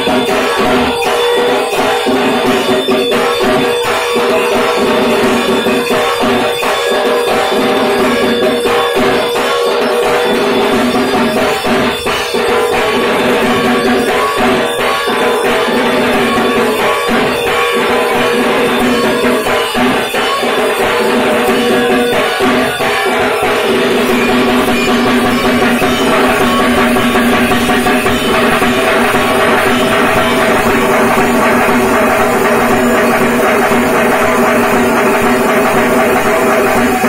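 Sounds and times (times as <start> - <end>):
barrel drum beaten fast: 0.0 - 37.0
steady held tone: 0.0 - 37.0.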